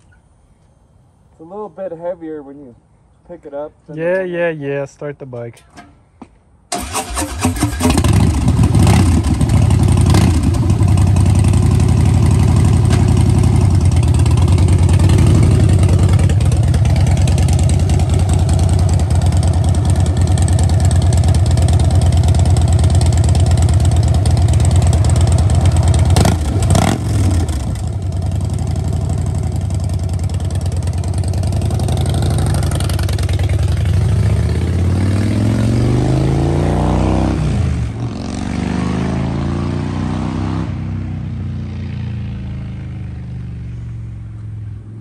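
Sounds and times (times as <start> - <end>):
motorcycle engine rumbling: 5.5 - 38.5, 40.8 - 45.0.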